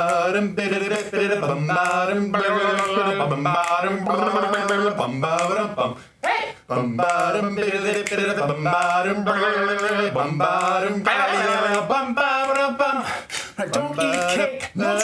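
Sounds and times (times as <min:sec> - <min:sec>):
male voices singing harmony: 0:00.0 - 0:15.0.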